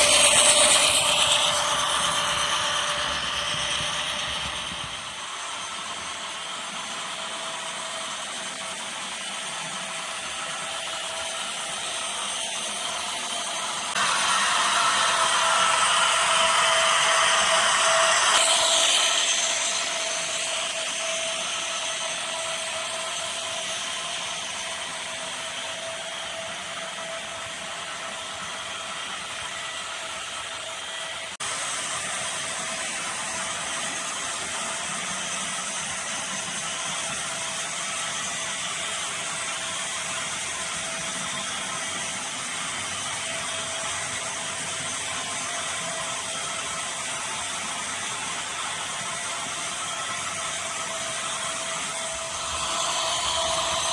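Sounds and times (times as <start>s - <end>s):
model locomotive motor hum: 0.0s - 53.9s.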